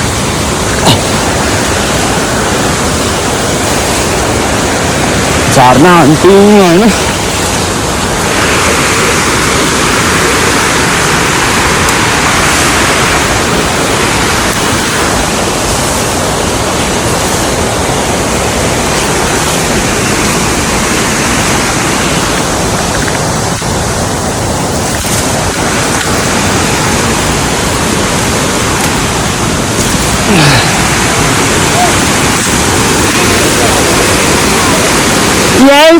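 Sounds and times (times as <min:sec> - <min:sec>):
waterfall pouring: 0:00.0 - 0:35.9.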